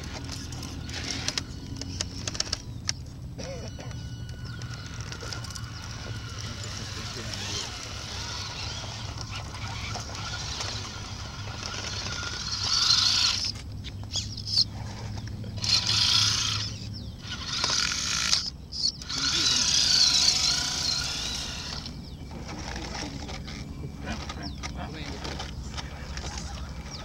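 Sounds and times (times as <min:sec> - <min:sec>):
toy truck electric motor whining: 0:00.0 - 0:03.0, 0:03.6 - 0:27.0.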